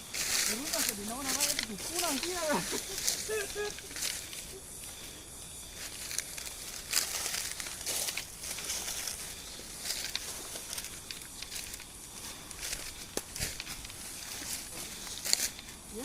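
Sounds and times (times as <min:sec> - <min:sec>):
dry leaves rustling and crackling: 0:00.0 - 0:16.0
steady hiss: 0:00.0 - 0:16.0.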